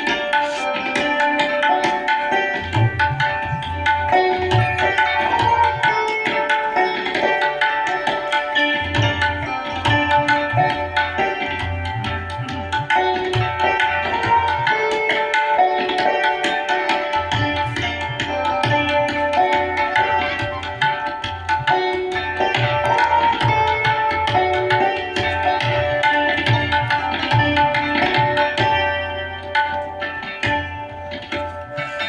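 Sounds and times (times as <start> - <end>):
santoor playing: 0.0 - 32.0
tabla: 0.0 - 32.0.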